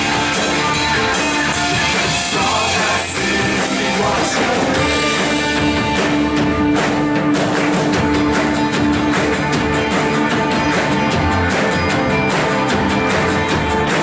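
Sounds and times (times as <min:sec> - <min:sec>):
guitar: 0:00.0 - 0:14.0
live band instrumental music: 0:00.0 - 0:14.0
steady drum beat: 0:00.0 - 0:14.0.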